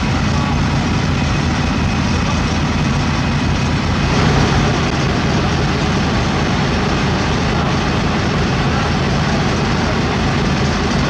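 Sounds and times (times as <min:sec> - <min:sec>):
road roller diesel engine rumble: 0:00.0 - 0:11.0.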